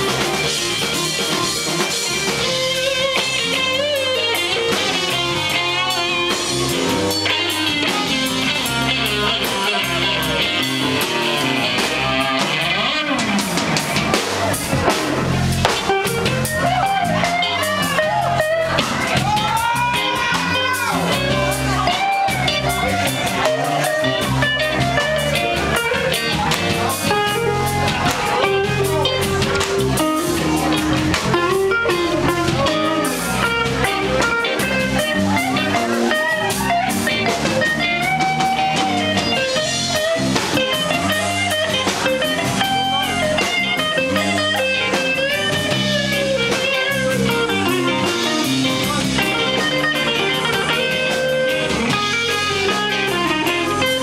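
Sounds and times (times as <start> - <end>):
electric blues band playing: 0.0 - 54.0
harmonica lead line: 0.0 - 54.0.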